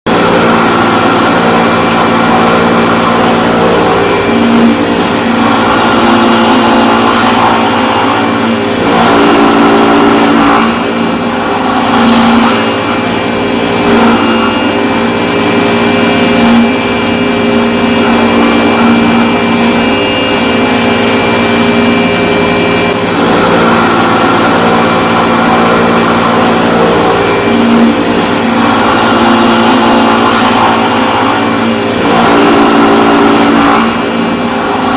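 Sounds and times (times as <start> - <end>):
power tool carving wood: 0.1 - 34.9.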